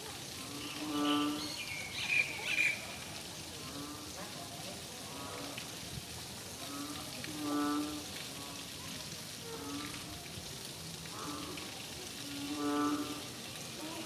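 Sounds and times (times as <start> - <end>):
rain hiss: 0.0 - 14.0.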